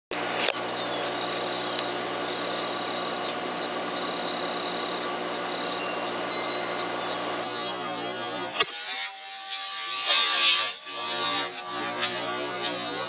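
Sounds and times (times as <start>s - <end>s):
steady machine hum: 0.1s - 8.8s, 10.7s - 13.0s.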